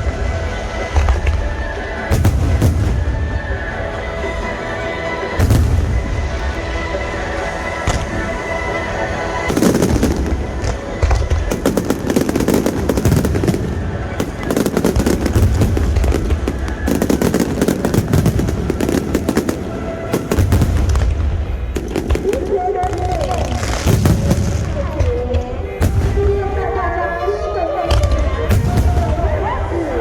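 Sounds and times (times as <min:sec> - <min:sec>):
fireworks bangs and crackles: 0:00.0 - 0:30.0
music: 0:00.0 - 0:30.0.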